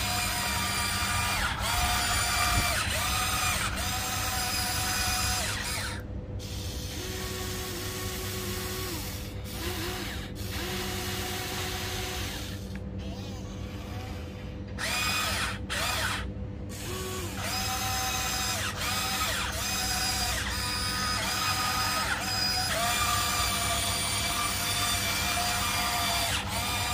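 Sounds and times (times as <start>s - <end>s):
toy excavator motors whirring: 0.0s - 26.9s.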